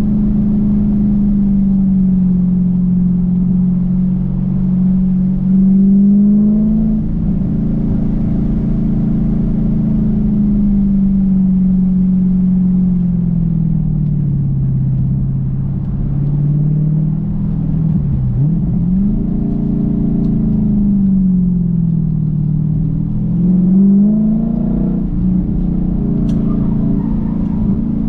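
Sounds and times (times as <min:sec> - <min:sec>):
car engine and exhaust: 0:00.0 - 0:28.0.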